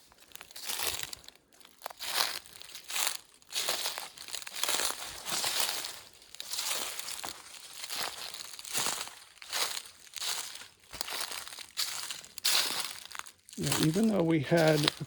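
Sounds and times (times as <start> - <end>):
footsteps through leaf litter: 0.0 - 15.0.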